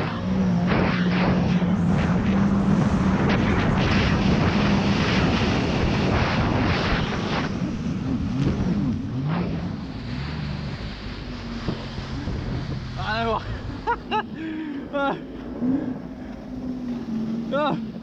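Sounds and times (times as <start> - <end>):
jet ski engine droning: 0.0 - 18.0
wind rushing over microphone: 0.0 - 18.0.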